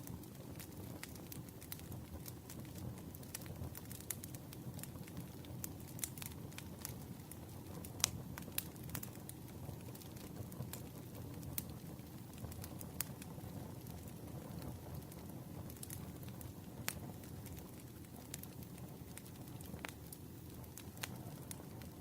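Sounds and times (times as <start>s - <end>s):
campfire crackling: 0.0s - 22.0s
low rumble of flames: 0.0s - 22.0s.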